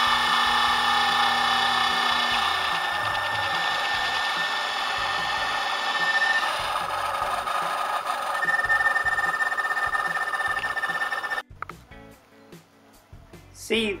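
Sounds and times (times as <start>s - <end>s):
electric motor whine: 0.0s - 11.4s
low hum: 0.0s - 11.4s.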